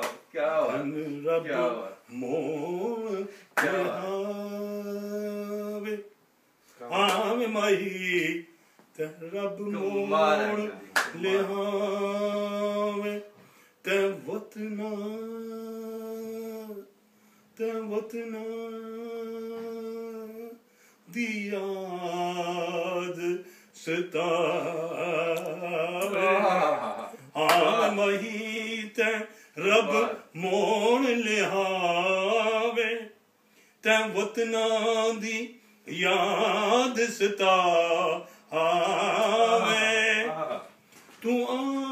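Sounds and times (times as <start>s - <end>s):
man chanting: 0.0s - 6.1s, 6.7s - 13.3s, 17.6s - 33.1s, 33.8s - 41.9s
man singing long notes: 0.6s - 6.1s, 6.8s - 13.3s, 17.6s - 33.1s, 33.9s - 41.9s.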